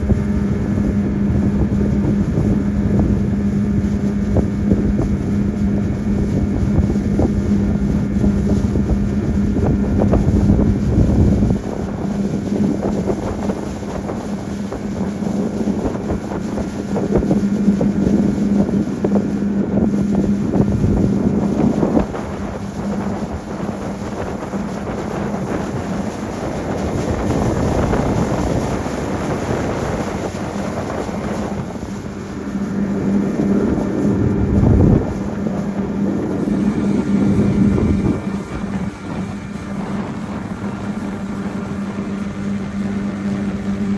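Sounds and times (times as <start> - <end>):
motorboat engine humming: 0.0 - 43.9
wind buffeting microphone: 0.0 - 43.9.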